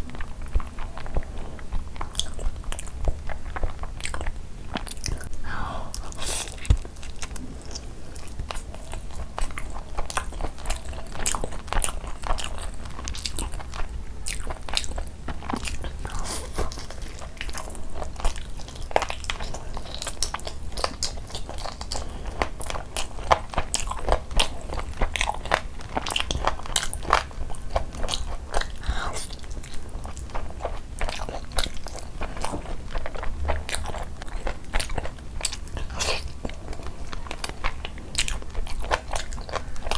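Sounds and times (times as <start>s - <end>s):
person chewing food: 0.0s - 39.9s
sharp clicks and wet mouth sounds: 0.1s - 39.9s.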